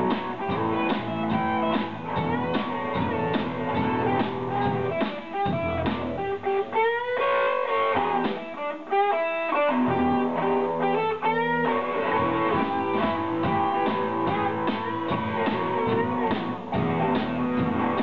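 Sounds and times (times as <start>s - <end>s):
electric guitar lead with bends: 0.0s - 18.0s
live blues rock band: 0.0s - 18.0s.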